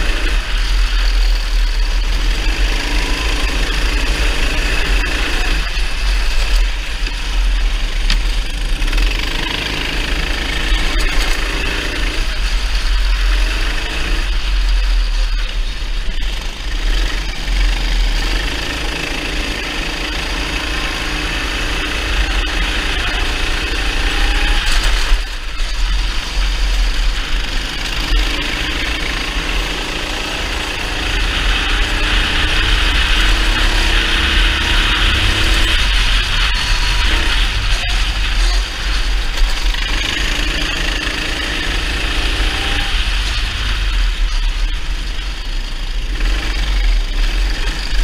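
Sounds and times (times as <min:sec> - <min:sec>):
kart engine at racing speed: 0:00.0 - 0:48.0.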